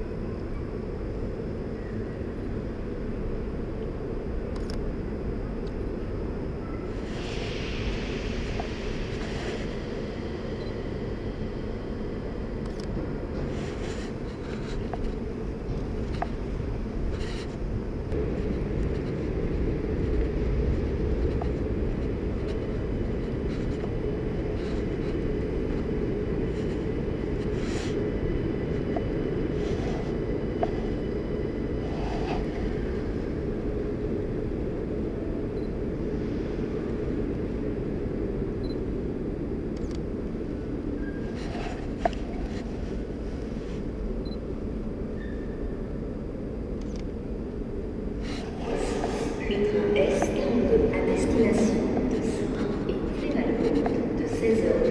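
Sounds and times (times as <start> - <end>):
low rumbling noise: 0.0 - 54.9.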